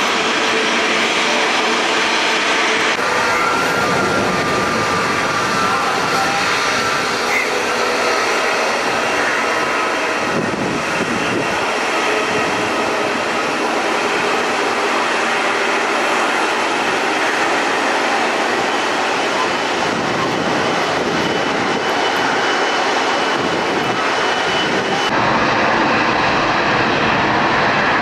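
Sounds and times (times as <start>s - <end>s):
jet engines taxiing: 0.0s - 28.0s.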